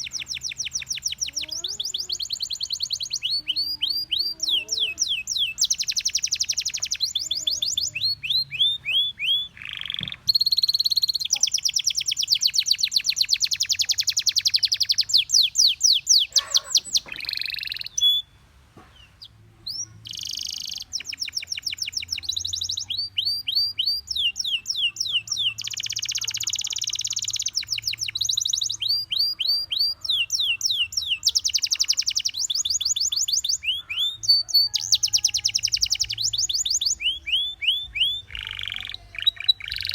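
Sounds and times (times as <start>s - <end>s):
canary trilling and chirping: 0.0s - 18.4s, 19.0s - 39.9s.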